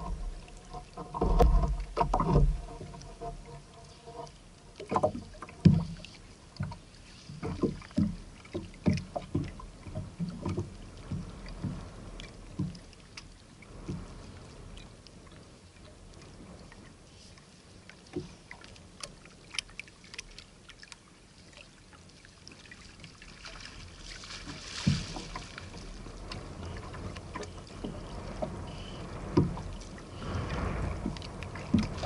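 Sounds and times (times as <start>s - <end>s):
water splashing: 0.0s - 14.6s, 15.3s - 32.0s
water slapping against hull: 0.0s - 32.0s.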